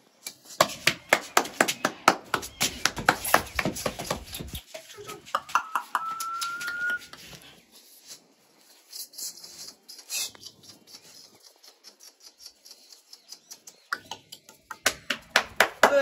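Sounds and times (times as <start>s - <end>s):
puppy paws pattering on concrete: 0.1s - 15.4s.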